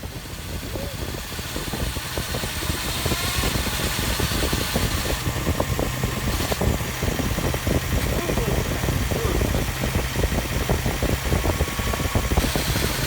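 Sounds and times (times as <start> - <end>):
car engine running: 0.0 - 13.0
rapid irregular engine ticking: 0.0 - 13.0.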